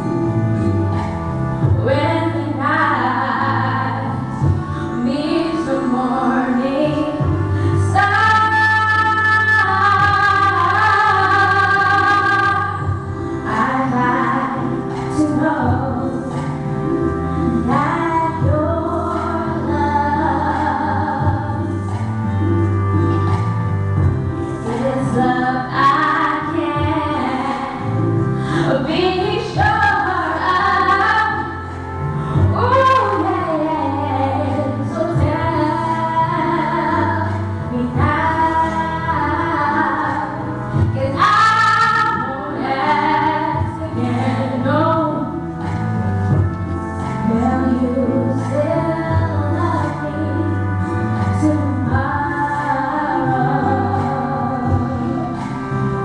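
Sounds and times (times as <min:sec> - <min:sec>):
girl singing a pop song: 0:00.0 - 0:56.0
instrumental accompaniment: 0:00.0 - 0:56.0.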